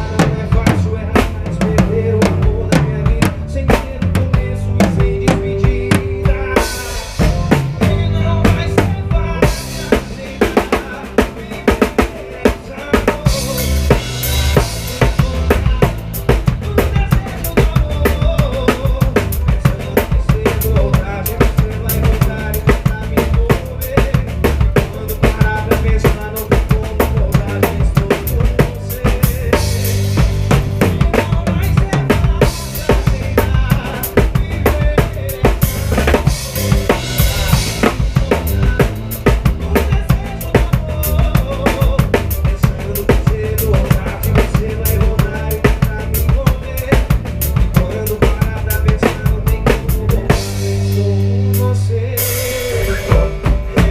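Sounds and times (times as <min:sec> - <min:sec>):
live band playing: 0:00.0 - 0:53.9.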